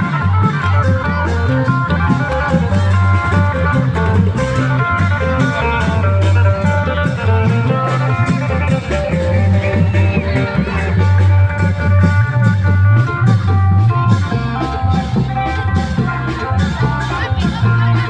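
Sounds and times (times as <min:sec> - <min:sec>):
amplified plucked string melody: 0:00.0 - 0:18.0
deep drum beat: 0:00.0 - 0:18.0.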